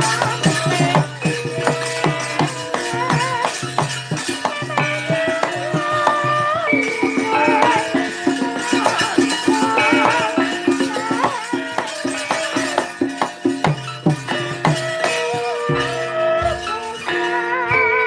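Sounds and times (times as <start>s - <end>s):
gamelan playing: 0.0s - 18.0s.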